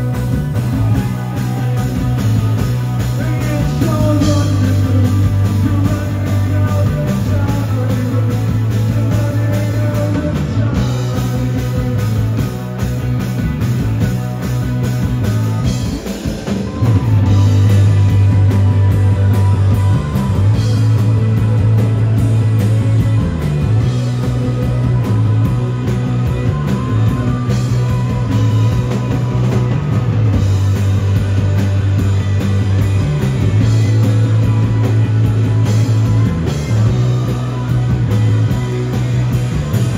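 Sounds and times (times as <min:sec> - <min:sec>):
rock band playing live: 0:00.0 - 0:39.9
steady bass line: 0:00.0 - 0:39.9.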